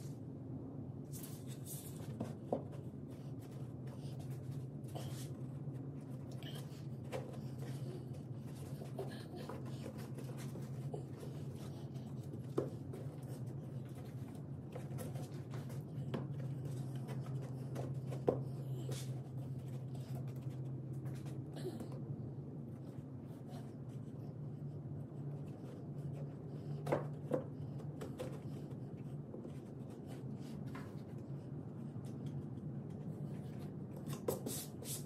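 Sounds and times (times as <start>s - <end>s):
steady low hum: 0.0s - 35.0s
scratching and handling noises: 1.0s - 35.0s.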